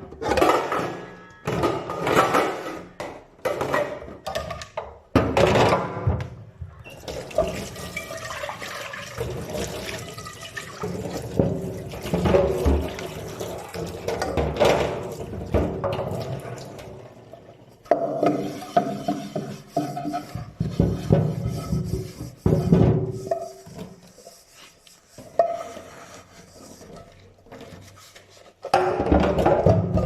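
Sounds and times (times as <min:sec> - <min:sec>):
dishes clattering in a sink: 0:00.1 - 0:24.0, 0:28.6 - 0:30.0.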